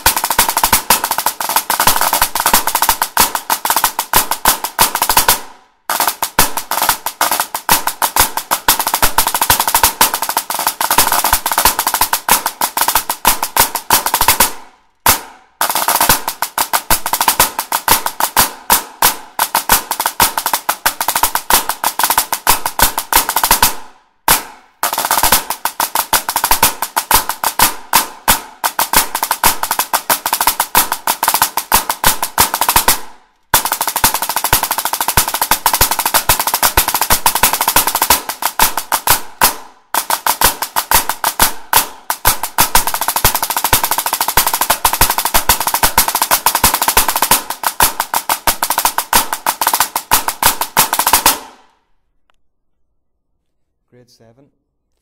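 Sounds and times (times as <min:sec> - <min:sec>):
snare drum playing rolls: 0:00.0 - 0:51.7.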